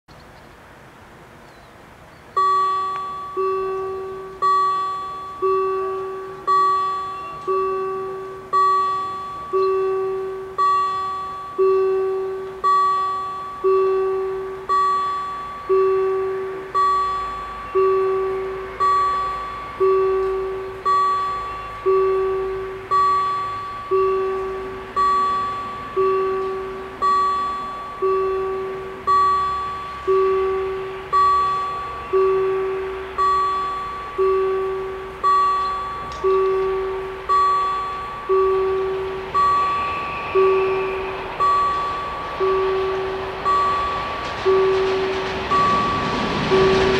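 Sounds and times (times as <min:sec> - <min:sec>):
level crossing warning bells: 0:00.3 - 0:46.9.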